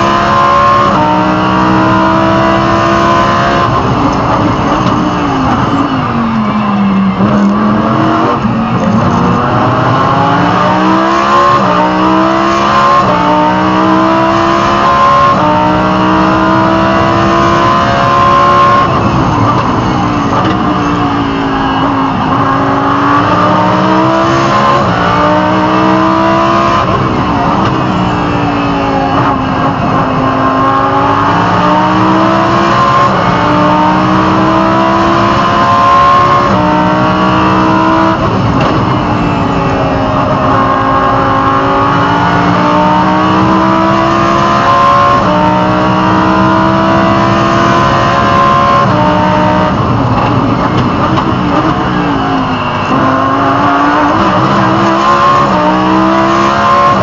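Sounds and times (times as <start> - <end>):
race car engine revving through gears: 0.0 - 57.0.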